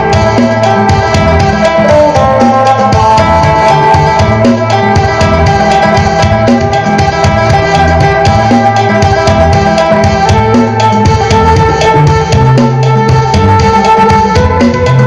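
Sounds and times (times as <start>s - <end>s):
drone tones: 0.0s - 15.0s
plucked lute melody: 0.0s - 15.0s.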